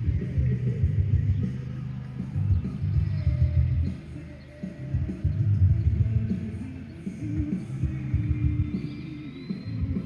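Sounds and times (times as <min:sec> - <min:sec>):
background music with low bass: 0:00.0 - 0:10.0.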